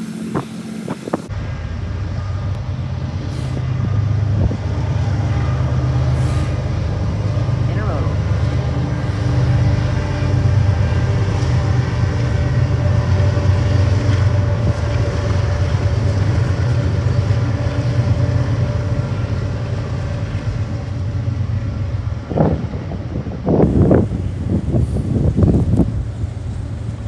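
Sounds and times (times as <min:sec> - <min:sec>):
diesel locomotive engine drone: 0:00.0 - 0:27.0.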